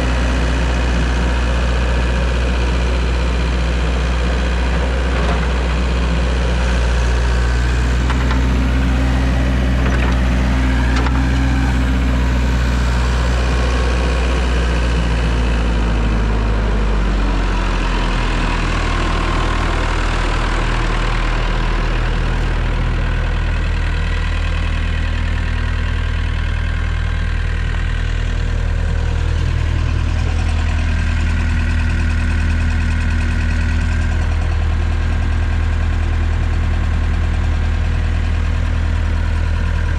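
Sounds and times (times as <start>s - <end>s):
skid steer engine running: 0.0s - 39.9s.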